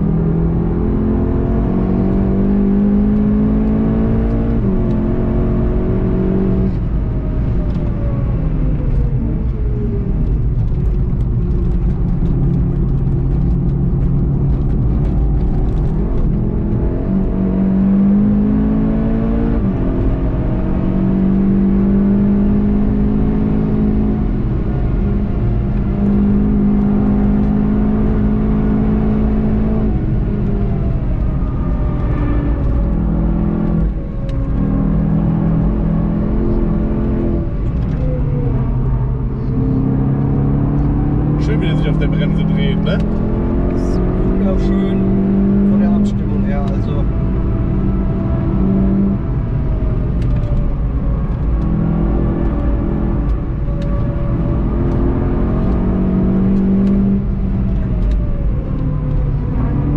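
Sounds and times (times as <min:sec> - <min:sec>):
car engine revving with gear changes: 0:00.0 - 0:59.9
road rumble: 0:00.0 - 0:59.9.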